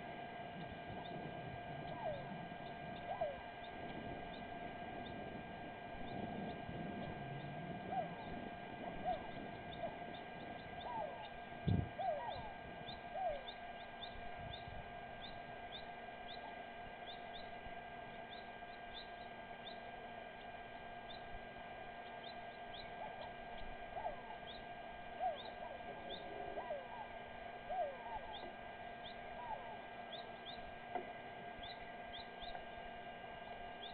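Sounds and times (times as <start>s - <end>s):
electrical hum: 0.0s - 33.9s
birds chirping: 0.1s - 33.9s.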